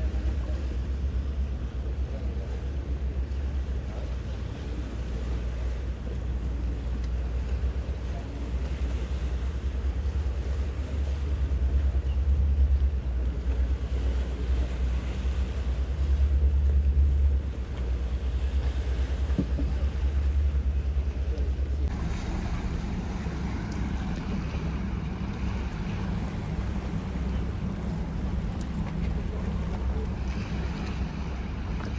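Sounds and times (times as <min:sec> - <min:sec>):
boat engine rumble: 0:00.0 - 0:31.9.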